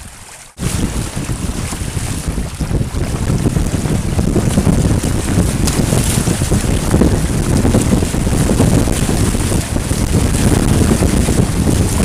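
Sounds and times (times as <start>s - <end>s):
water rushing along a hull: 0.0s - 12.0s
water splashing: 0.0s - 12.0s
wind buffeting microphone: 0.0s - 12.0s.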